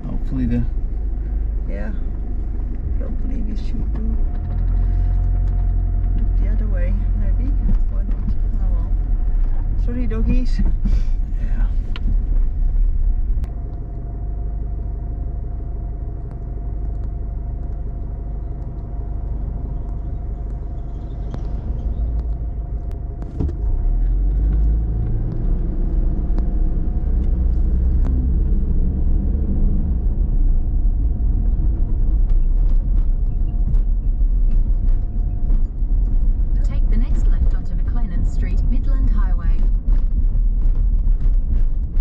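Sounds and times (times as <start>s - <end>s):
engine and tyre rumble: 0.0s - 42.0s
faint steady whine: 0.0s - 42.0s.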